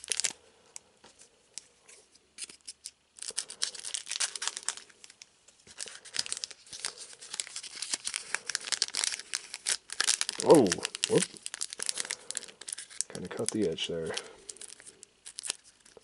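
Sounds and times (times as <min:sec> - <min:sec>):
foil wrapper crinkling: 0:00.0 - 0:00.4, 0:01.6 - 0:16.0.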